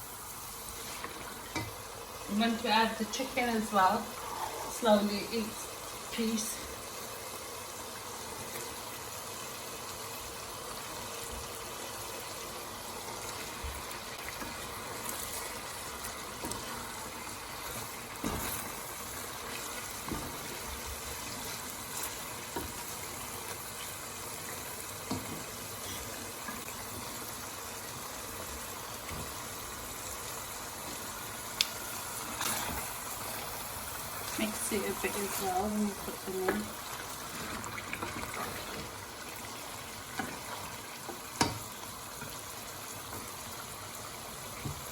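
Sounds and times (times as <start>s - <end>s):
masala sizzling and bubbling: 0.0s - 44.9s.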